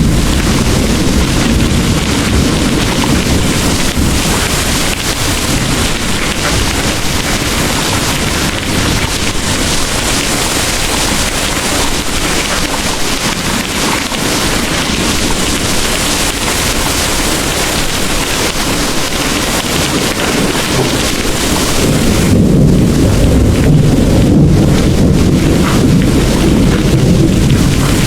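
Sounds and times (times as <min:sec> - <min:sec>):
heavy rain pouring: 0:00.0 - 0:28.0
rolling thunder: 0:00.0 - 0:28.0.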